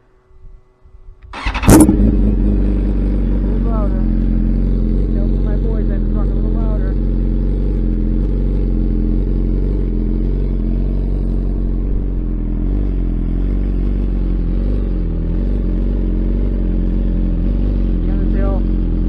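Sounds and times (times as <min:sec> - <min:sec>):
motorcycle engine idling: 0:01.2 - 0:19.0.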